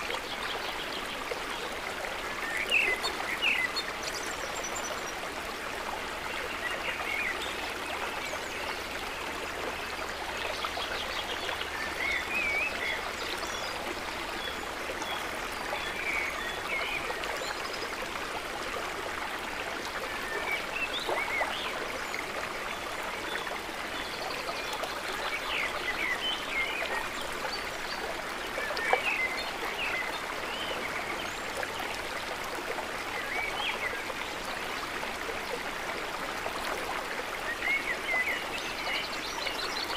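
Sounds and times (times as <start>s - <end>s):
lake water trickling and gurgling: 0.0s - 39.9s.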